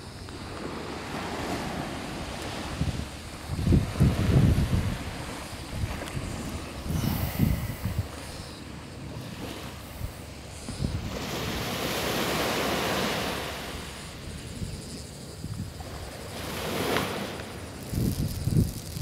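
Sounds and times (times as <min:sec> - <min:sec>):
small waves breaking on beach: 0:00.0 - 0:19.0
wind rumbling on microphone: 0:00.0 - 0:19.0.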